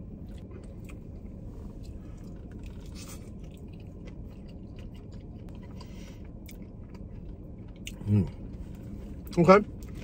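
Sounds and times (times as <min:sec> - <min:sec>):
person chewing fries: 0:00.0 - 0:10.0
steady low hum: 0:00.0 - 0:10.0.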